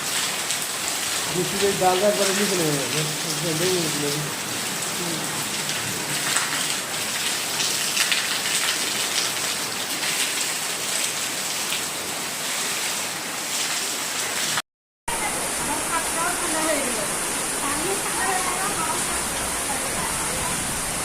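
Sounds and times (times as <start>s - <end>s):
heavy rain on a house: 0.0s - 21.0s.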